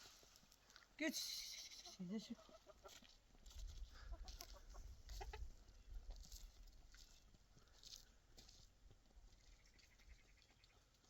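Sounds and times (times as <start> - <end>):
faint crunching and rustling: 0.0 - 1.0, 2.4 - 11.0.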